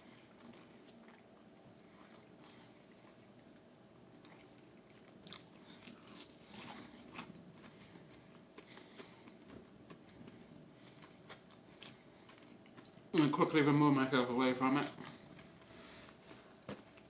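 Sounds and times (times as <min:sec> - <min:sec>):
chewing crispy food: 0:00.0 - 0:15.7.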